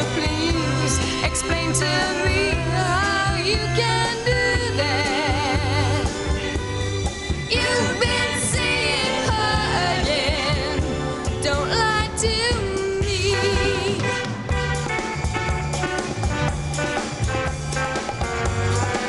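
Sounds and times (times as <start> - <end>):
pop record playing: 0.0 - 19.0.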